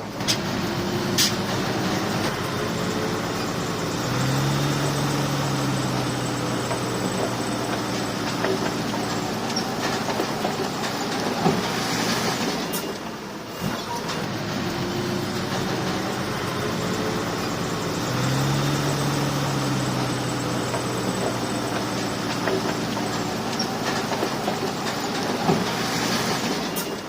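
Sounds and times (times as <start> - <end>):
bulldozer diesel engine: 0.0 - 27.0
steel tracks clattering and squealing: 0.0 - 27.0.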